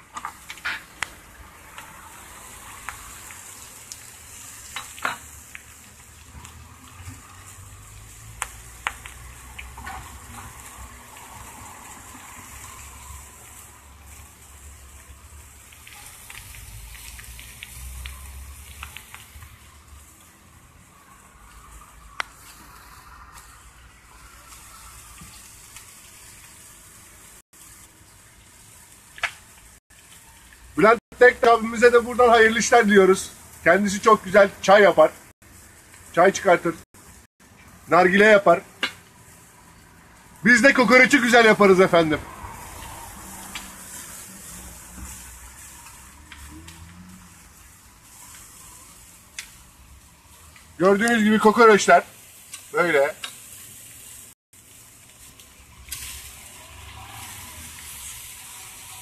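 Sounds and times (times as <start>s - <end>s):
meat sizzling: 0.0s - 59.0s.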